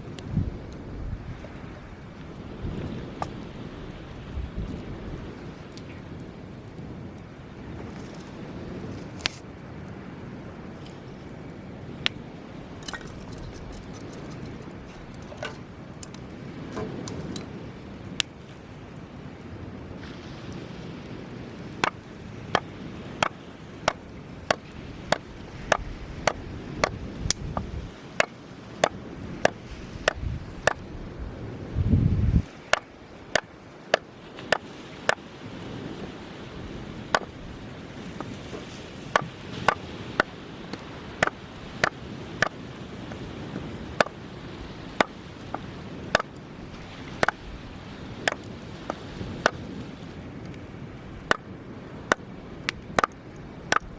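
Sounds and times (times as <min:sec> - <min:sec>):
low rumble of surf: 0:00.0 - 0:53.9.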